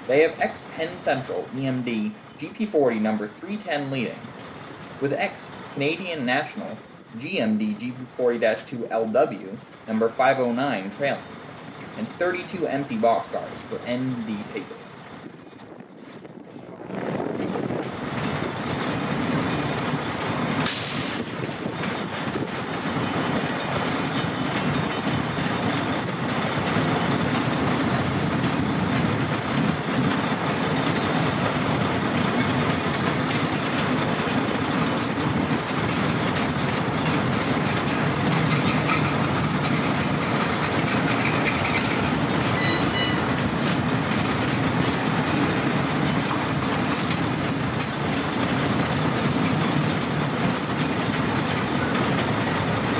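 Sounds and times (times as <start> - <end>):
wheels clicking over rail joints: 0.0 - 16.6, 17.2 - 52.9
freight train rumbling past: 0.0 - 52.9.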